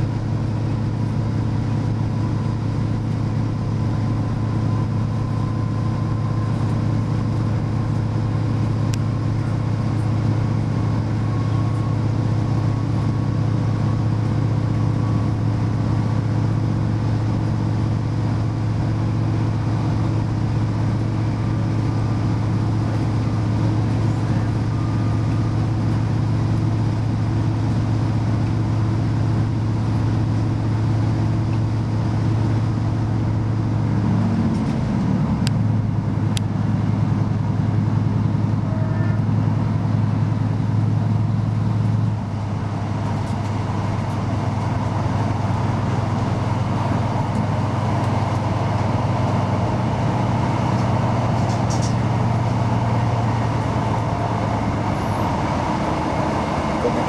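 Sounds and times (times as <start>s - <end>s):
train engine hum: 0.0s - 57.0s
train rolling rumble: 0.0s - 57.0s.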